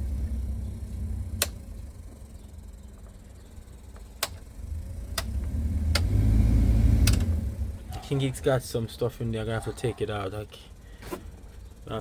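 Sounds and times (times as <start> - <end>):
blower fan humming: 0.0 - 12.0.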